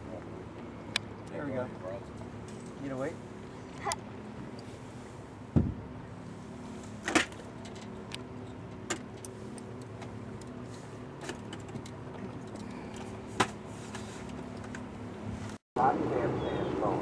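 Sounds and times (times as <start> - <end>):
outboard motor idling: 0.0 - 15.4.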